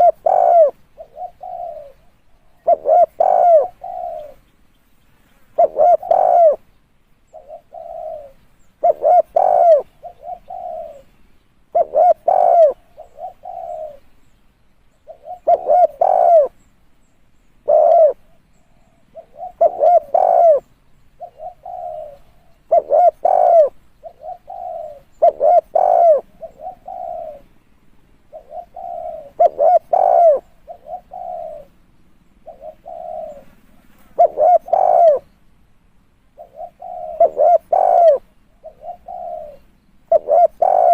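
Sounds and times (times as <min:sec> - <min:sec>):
dove cooing: 0:00.0 - 0:04.5, 0:05.6 - 0:06.7, 0:07.3 - 0:14.2, 0:15.0 - 0:16.7, 0:17.6 - 0:35.4, 0:36.3 - 0:40.9.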